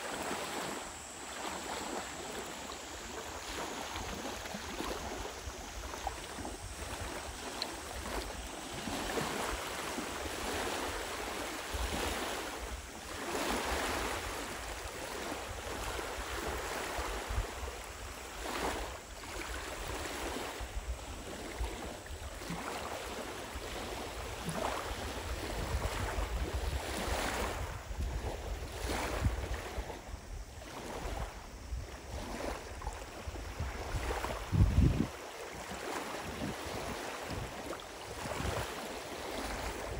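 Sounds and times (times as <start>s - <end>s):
lake waves washing ashore: 0.0s - 39.9s
wind rumbling on microphone: 2.0s - 39.9s.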